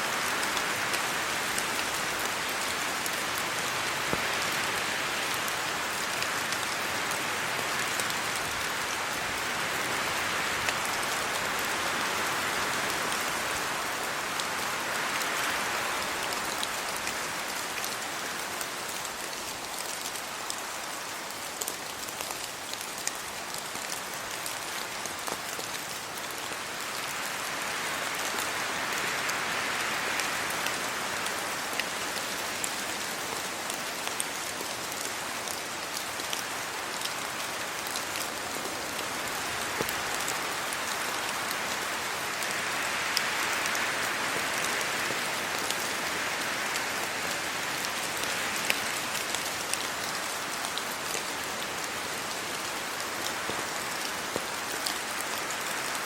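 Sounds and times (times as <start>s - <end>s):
rain falling on trees and road: 0.0s - 56.0s
wind through trees: 0.0s - 56.0s.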